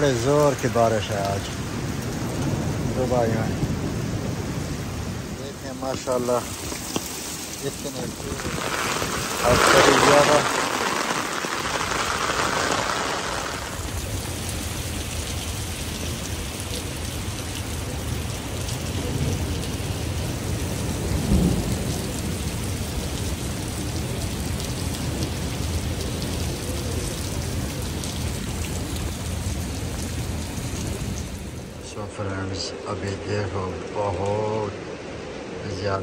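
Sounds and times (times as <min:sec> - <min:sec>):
heavy rain on paving and cars: 0:00.0 - 0:36.0.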